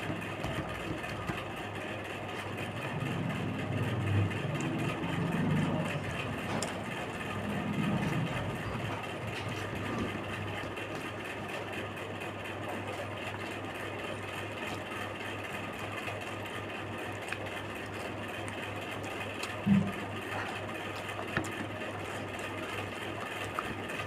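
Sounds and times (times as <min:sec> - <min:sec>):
pulsing mechanical hum: 0:00.0 - 0:24.0.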